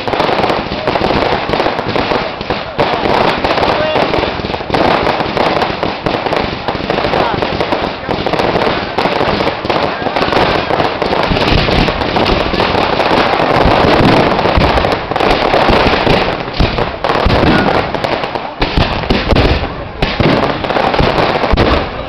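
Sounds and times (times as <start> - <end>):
fireworks bursting and crackling: 0.0 - 22.0.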